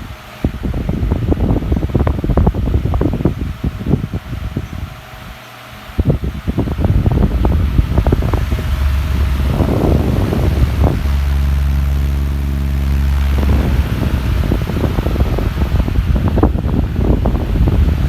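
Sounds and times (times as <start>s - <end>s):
fan airflow gusting on microphone: 0.0s - 18.0s
fan motor hum: 0.0s - 18.0s.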